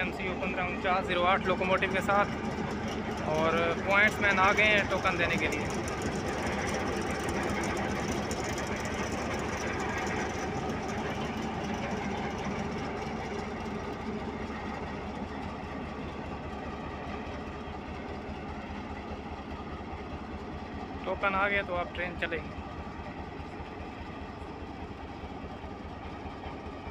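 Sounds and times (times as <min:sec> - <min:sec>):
locomotive engine idling: 0:00.0 - 0:26.9.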